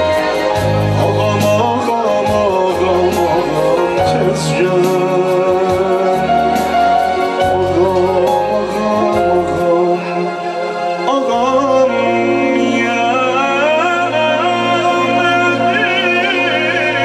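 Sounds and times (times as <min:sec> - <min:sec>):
backing music with bass and percussion: 0:00.0 - 0:17.0
man singing into a microphone: 0:00.0 - 0:17.0.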